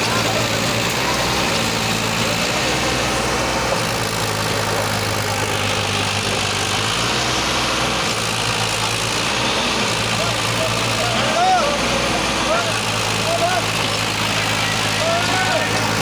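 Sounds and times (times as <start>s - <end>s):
tractor diesel engines under load: 0.0s - 16.0s.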